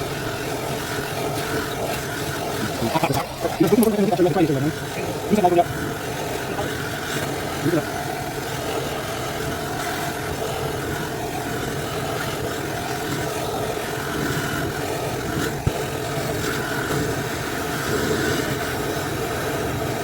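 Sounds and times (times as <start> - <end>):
blowtorches rushing: 0.0 - 20.0.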